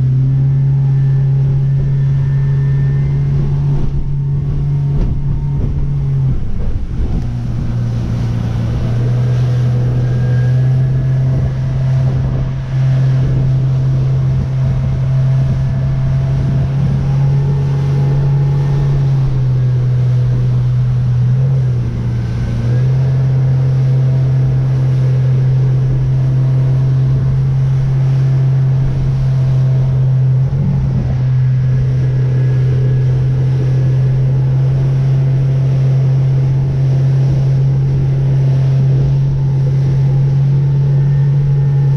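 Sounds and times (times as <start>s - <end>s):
motorboat engine droning: 0.0s - 41.9s
water noise: 0.0s - 41.9s
wind: 0.0s - 41.9s.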